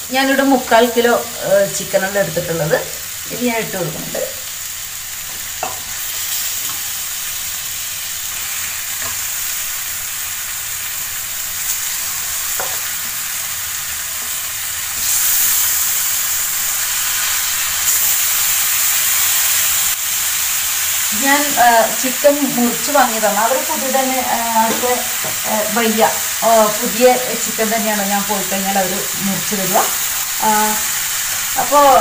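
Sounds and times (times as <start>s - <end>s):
masala sizzling in oil: 0.0s - 32.0s.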